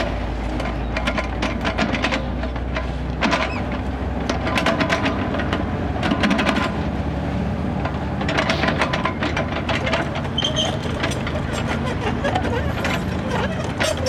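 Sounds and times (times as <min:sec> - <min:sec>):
diesel engine running: 0:00.0 - 0:14.0
excavator boom clanking and rattling: 0:00.0 - 0:14.0.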